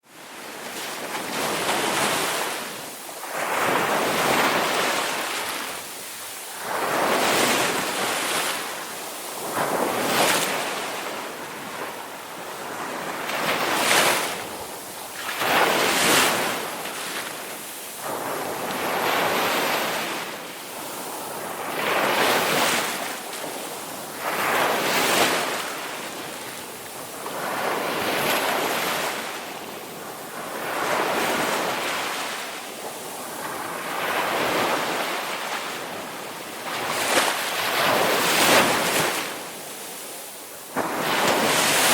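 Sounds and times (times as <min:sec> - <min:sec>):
ocean waves breaking: 0:00.2 - 0:41.9.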